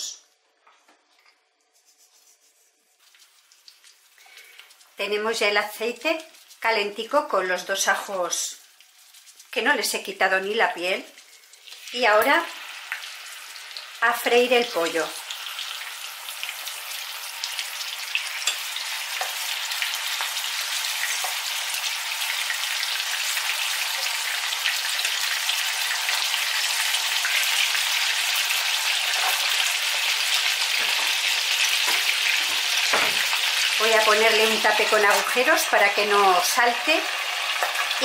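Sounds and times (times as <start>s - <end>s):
chicken sizzling in a frying pan: 3.0s - 38.0s.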